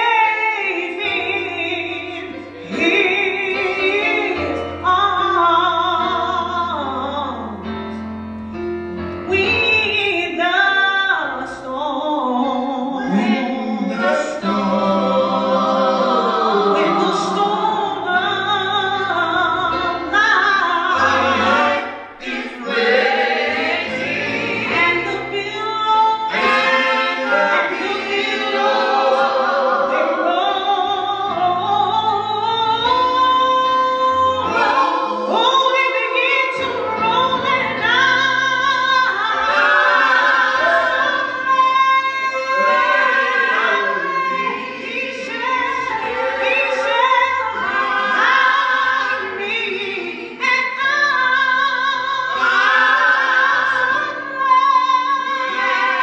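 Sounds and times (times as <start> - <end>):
vocal group singing gospel: 0.0 - 7.4, 10.3 - 56.0.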